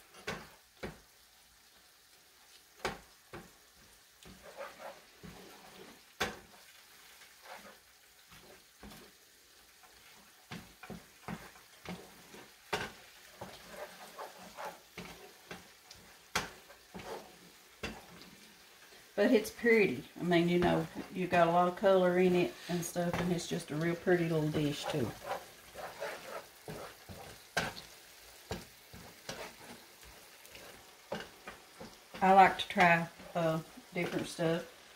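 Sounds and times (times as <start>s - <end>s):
wooden spatula scraping skillet: 0.0s - 1.1s, 2.5s - 34.9s
faint sizzle: 0.0s - 34.9s
spatula tapping pan: 0.1s - 1.1s, 2.8s - 18.3s, 22.6s - 34.7s.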